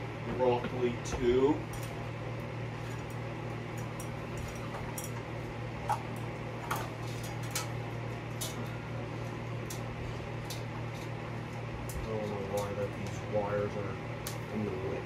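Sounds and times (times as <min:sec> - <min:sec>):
steady low hum: 0:00.0 - 0:15.0
metal fan parts clicking: 0:00.3 - 0:15.0.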